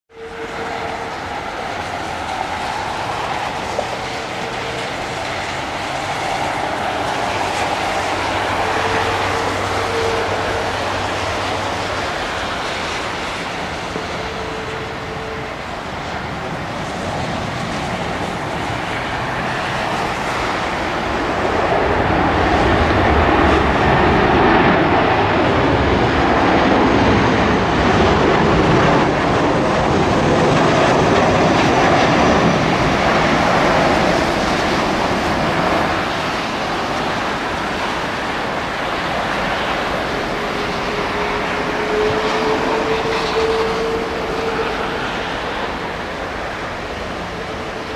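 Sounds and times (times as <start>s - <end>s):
jet engines rushing: 0.1s - 47.9s.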